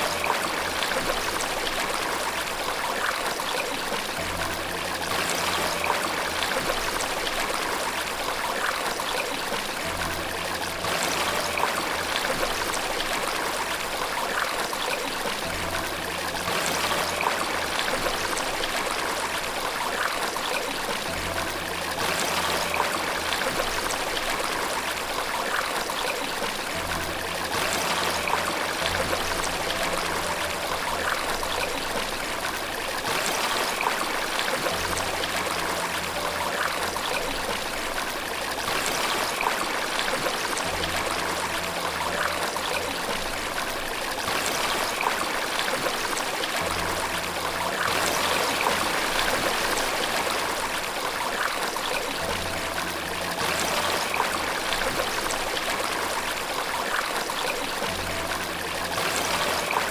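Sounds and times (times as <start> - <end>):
low sustained music notes: 0.0 - 59.9
stream trickling: 0.0 - 59.9.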